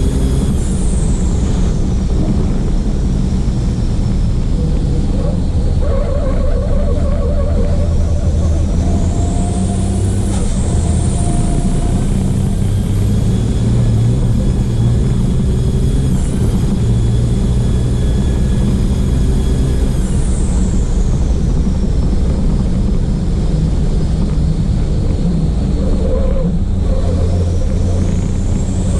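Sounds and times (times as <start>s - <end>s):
diesel truck engine racing: 0.0s - 28.9s.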